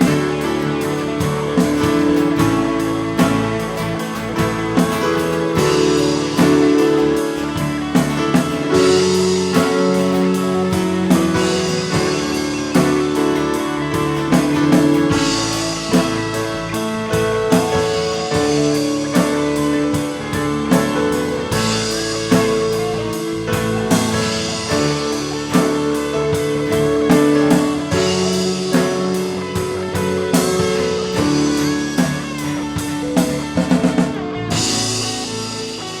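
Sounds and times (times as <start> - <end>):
instrumental music with beat: 0.0 - 36.0.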